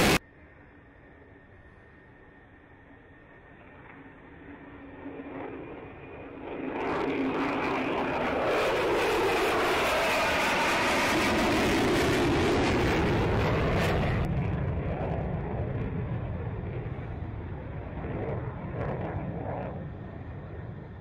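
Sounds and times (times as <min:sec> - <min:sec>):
jet engine roar flying past: 0:00.0 - 0:00.7, 0:02.8 - 0:21.0.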